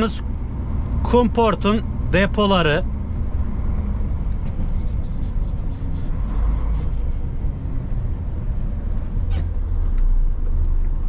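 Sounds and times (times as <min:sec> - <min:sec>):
road rumble: 0:00.0 - 0:11.0
truck engine drone: 0:00.0 - 0:11.0.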